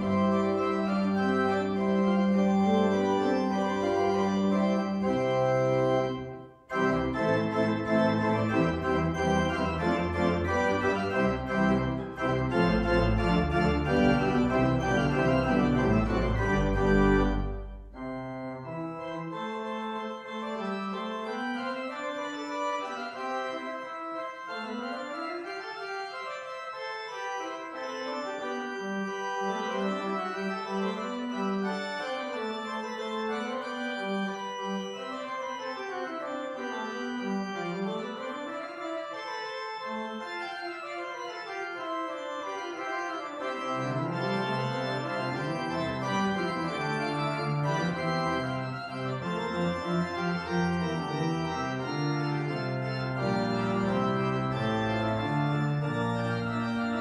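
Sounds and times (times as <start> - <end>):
church organ playing chords: 0.0 - 57.0
deep organ pedal bass: 0.0 - 57.0.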